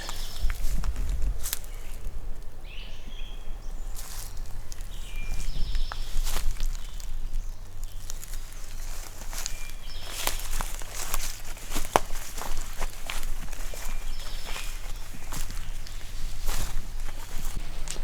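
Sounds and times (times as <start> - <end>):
footsteps crunching through dry leaves: 0.0 - 2.4, 3.2 - 18.0.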